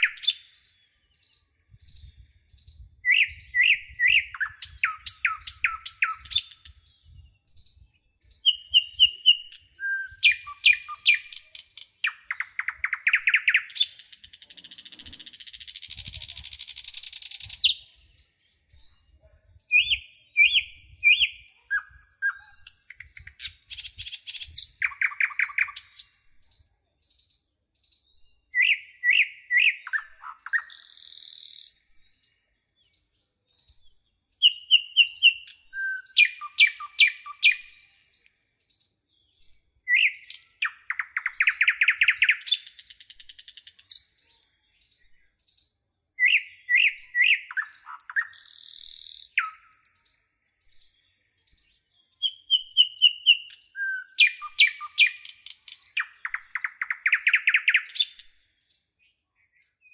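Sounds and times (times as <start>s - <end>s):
bird song whistles and trills: 0.0s - 59.9s.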